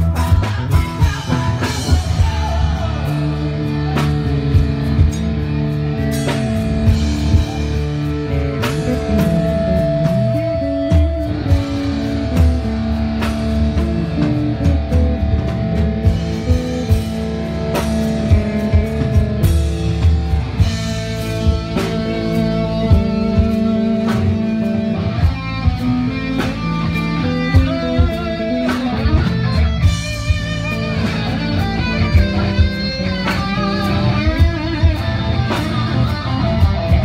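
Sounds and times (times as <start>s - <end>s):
bass guitar: 0.0s - 37.0s
drum kit beat: 0.0s - 37.0s
electric guitar: 0.0s - 37.0s.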